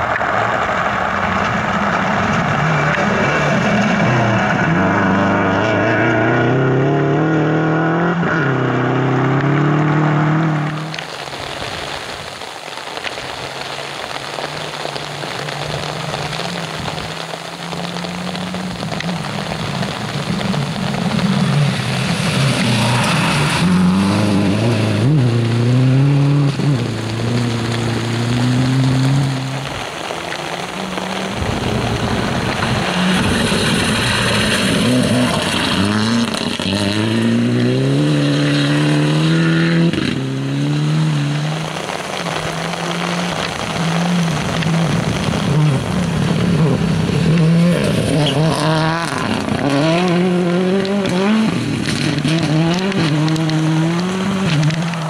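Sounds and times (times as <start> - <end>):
rally car engines revving: 0.0 - 11.8, 12.7 - 55.0
heavy rain hiss: 0.0 - 55.0.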